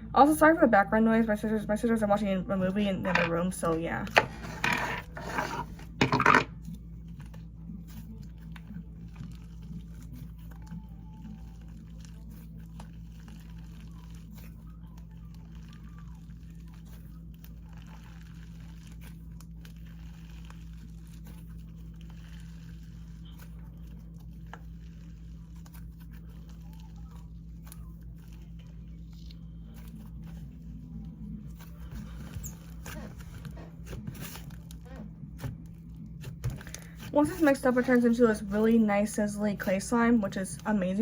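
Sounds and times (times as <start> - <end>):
steady low hum: 0.0 - 41.0
slime crackling and squishing: 6.6 - 41.0.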